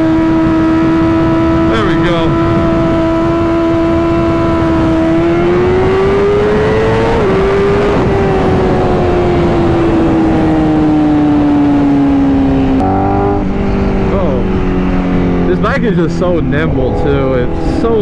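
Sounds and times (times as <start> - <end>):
motorcycle engine revving: 0.0 - 18.0
wind noise: 0.0 - 18.0.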